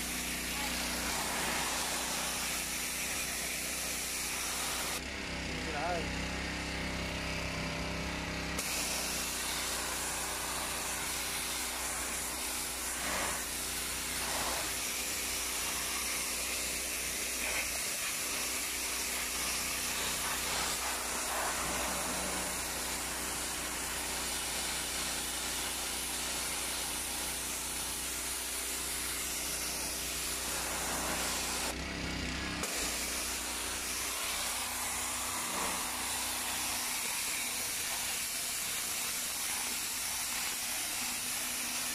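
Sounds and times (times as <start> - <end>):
spray hissing onto concrete: 0.0 - 5.0, 8.6 - 31.8, 32.6 - 41.9
pressure washer engine running: 0.0 - 41.9.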